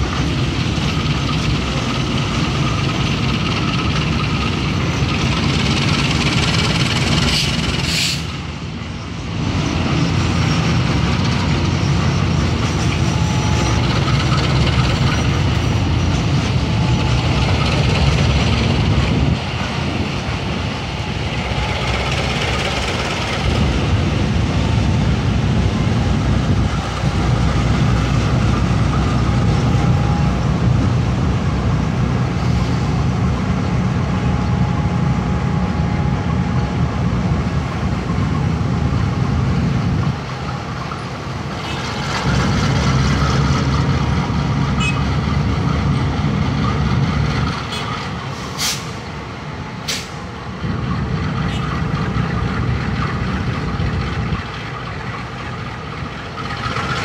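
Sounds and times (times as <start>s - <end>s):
locomotive diesel engine drone: 0.0s - 57.0s.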